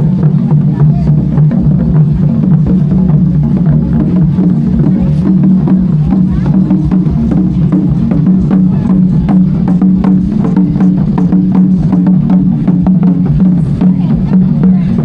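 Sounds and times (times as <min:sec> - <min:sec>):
music with wood-block-like beat: 0:00.0 - 0:15.0.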